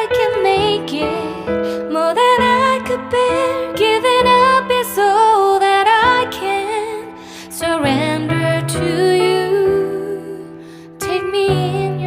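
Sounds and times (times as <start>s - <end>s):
slow tender song: 0.0s - 12.0s.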